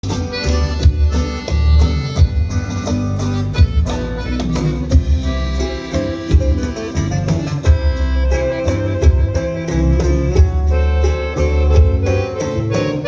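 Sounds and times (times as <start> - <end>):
live band playing instrumental: 0.0 - 13.0.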